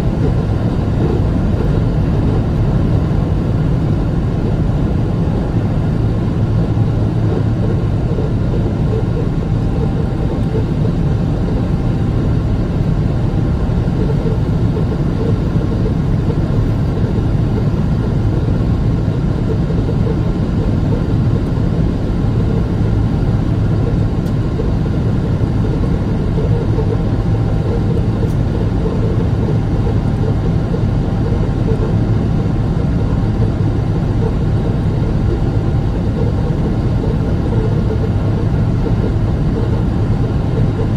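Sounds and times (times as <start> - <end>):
jet engines droning: 0.0 - 40.9.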